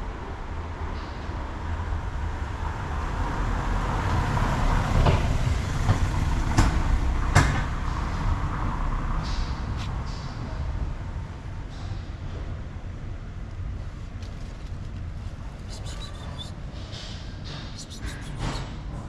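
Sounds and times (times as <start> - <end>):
low rumble of engine or traffic: 0.0 - 19.0.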